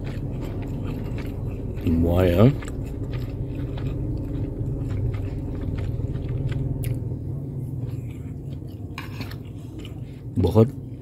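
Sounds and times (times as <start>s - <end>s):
person chewing food: 0.0s - 11.0s
steady low hum: 0.0s - 11.0s.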